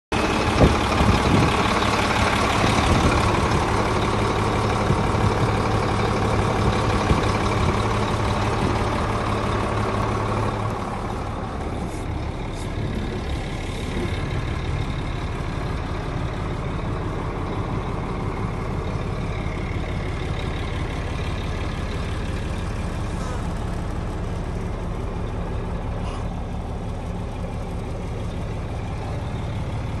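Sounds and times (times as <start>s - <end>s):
truck diesel engine idling: 0.1s - 30.0s.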